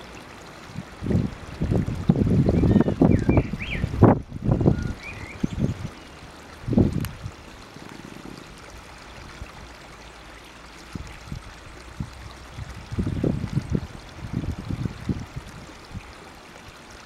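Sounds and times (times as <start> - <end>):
water trickling into pond: 0.0 - 17.0
wind buffeting microphone: 0.6 - 9.7, 10.9 - 16.2.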